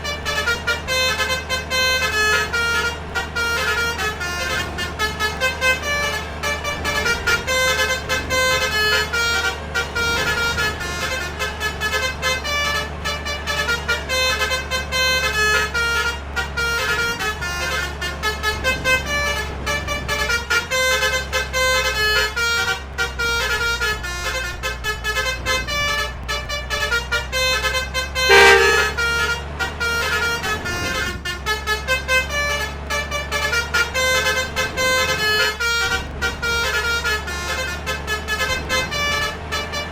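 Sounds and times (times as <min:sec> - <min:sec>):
low engine rumble: 0:00.0 - 0:39.9
low single horn blast: 0:00.0 - 0:39.9
multi-tone bus air horns melody: 0:00.0 - 0:39.9.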